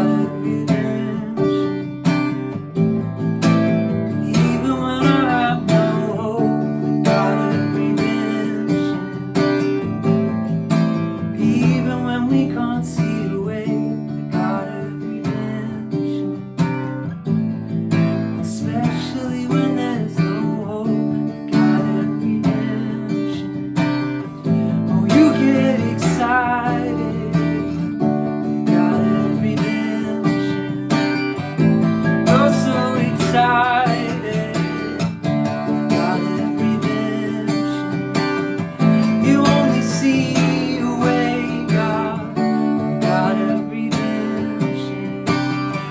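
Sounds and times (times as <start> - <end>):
person singing: 0.0 - 1.8, 4.1 - 9.8, 11.2 - 16.4, 18.5 - 23.7, 24.6 - 45.9
acoustic guitar strumming: 0.0 - 45.9.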